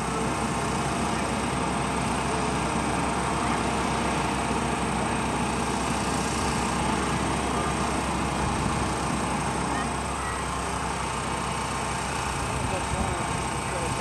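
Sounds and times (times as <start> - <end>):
motor running steadily: 0.0 - 14.0
steady outdoor noise: 0.0 - 14.0.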